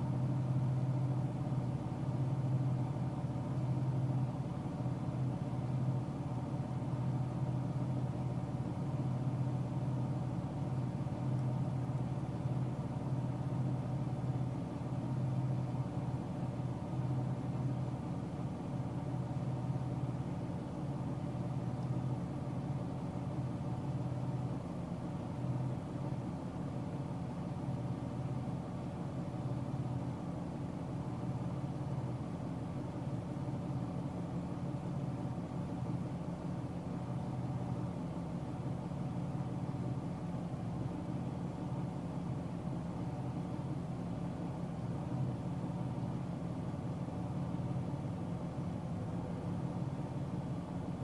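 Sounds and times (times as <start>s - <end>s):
car engine and tyre noise: 0.0s - 51.0s.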